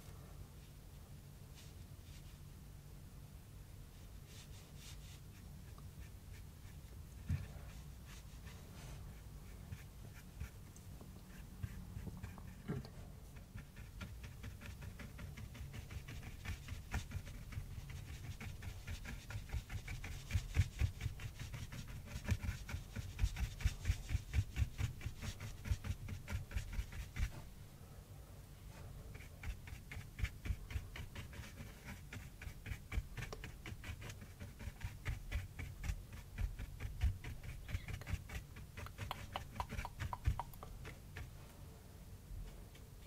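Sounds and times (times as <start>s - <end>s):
paintbrush dabbing on cardboard: 4.0s - 10.6s, 11.2s - 27.5s, 28.8s - 41.4s.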